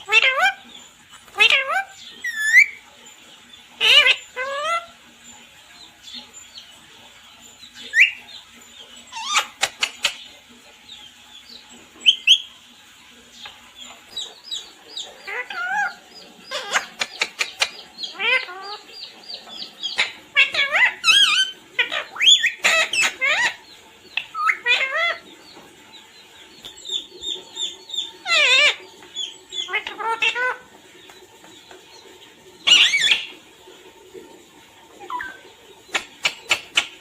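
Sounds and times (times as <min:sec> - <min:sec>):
parrot chirping and squawking: 0:00.0 - 0:25.6, 0:26.2 - 0:30.9, 0:31.9 - 0:33.5, 0:34.9 - 0:37.0.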